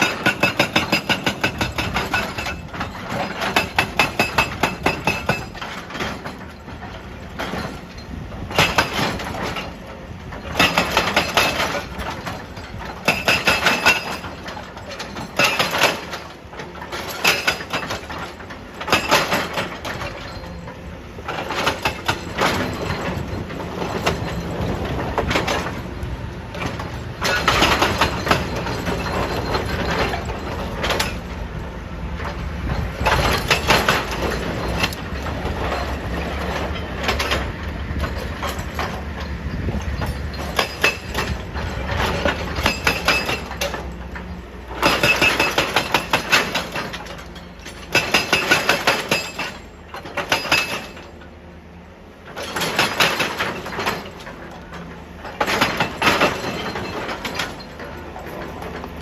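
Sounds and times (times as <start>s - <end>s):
hydraulic breaker hammering stone: 0.0s - 31.4s, 32.2s - 51.2s, 52.2s - 59.0s
excavator engine running: 0.0s - 59.0s.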